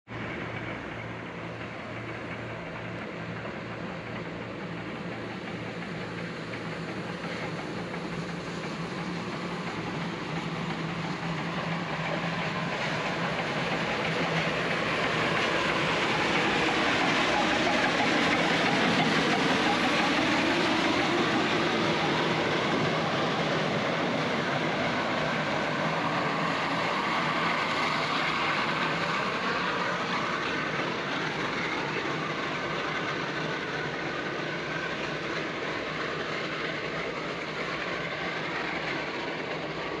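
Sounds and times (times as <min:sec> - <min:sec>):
steam train rolling on track: 0:00.0 - 0:40.0.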